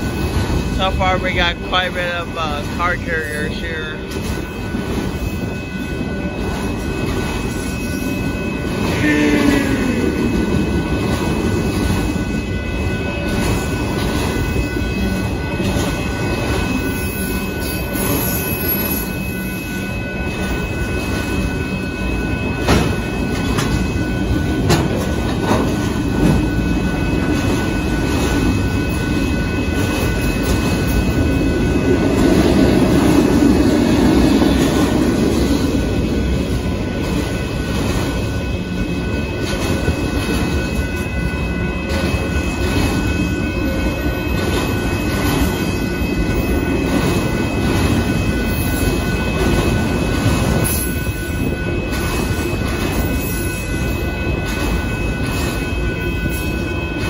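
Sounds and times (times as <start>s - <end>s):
freight train rolling past: 0.0s - 57.0s
knocks and clanks of train cars: 0.0s - 57.0s.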